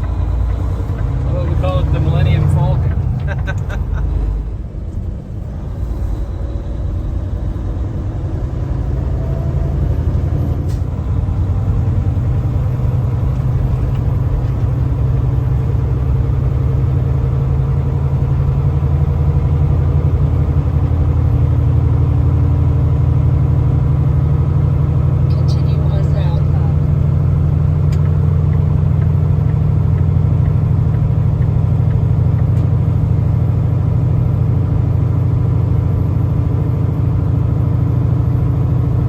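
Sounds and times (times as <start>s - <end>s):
truck diesel engine rumble: 0.0s - 39.0s.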